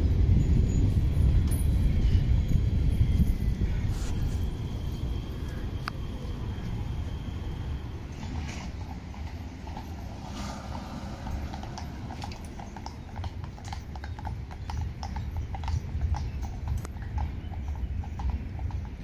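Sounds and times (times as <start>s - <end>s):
horse hooves clip-clopping on pavement: 0.0s - 19.0s
steady low rumble: 0.0s - 19.0s.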